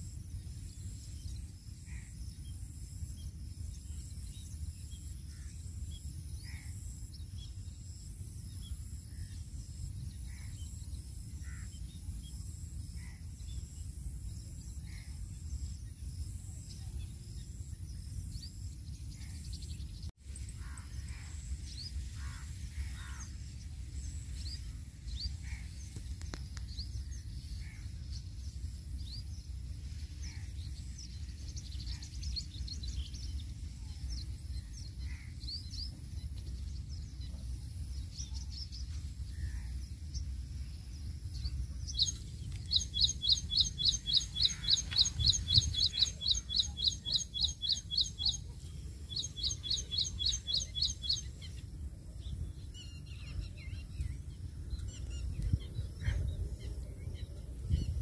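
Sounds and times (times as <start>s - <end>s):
birds chirping: 0.0s - 58.0s
low steady rumble: 0.0s - 58.0s.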